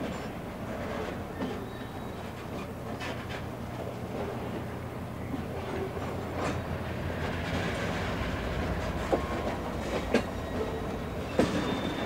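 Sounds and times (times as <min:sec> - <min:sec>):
freight cars rumbling on track: 0:00.0 - 0:12.0.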